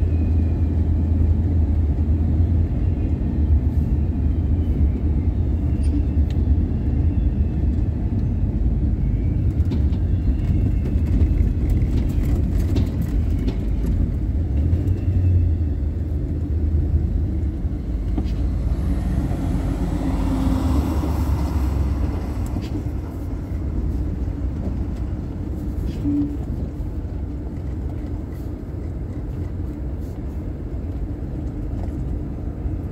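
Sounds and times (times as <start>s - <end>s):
car road and engine rumble: 0.0s - 32.9s.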